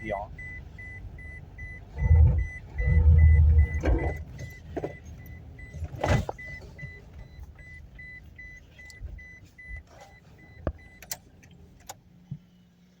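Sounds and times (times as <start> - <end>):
dashboard warning beeping: 0.0 - 11.3
road and engine rumble: 0.0 - 13.0.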